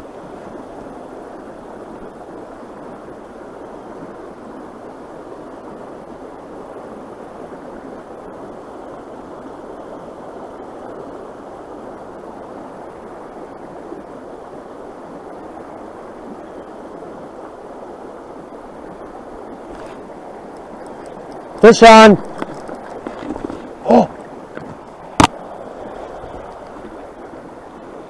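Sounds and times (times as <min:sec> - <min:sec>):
creek flowing over rocks: 0:00.0 - 0:28.0.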